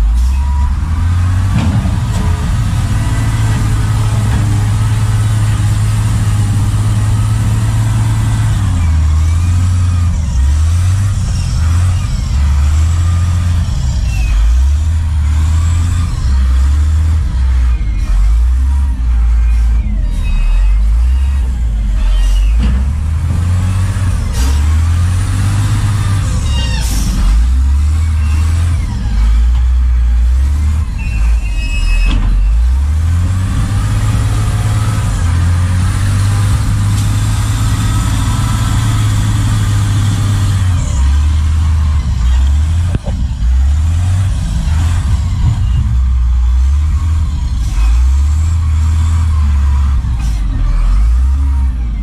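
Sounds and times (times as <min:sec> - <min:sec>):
truck diesel engine revving: 0:00.0 - 0:52.0.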